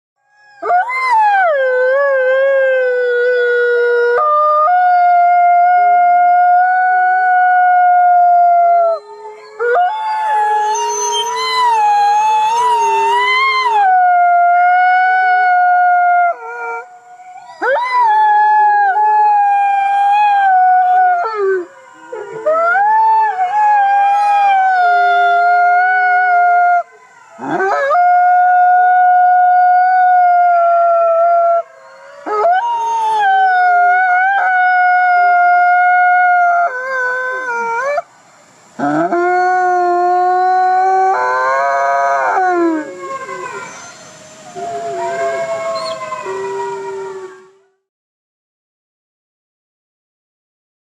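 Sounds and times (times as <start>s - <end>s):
fox howling: 0.3s - 38.0s, 38.8s - 47.8s.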